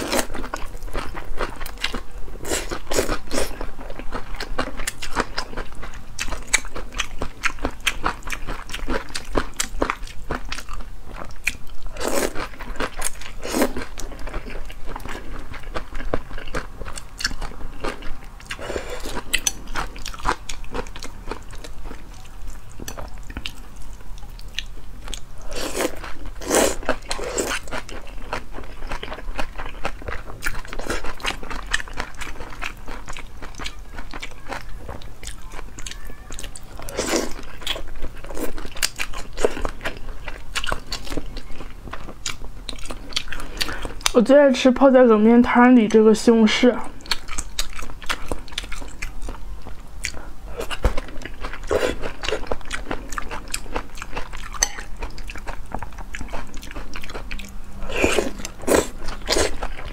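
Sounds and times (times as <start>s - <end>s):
wet chewing and crunchy bites: 0.0s - 44.2s, 46.9s - 59.9s.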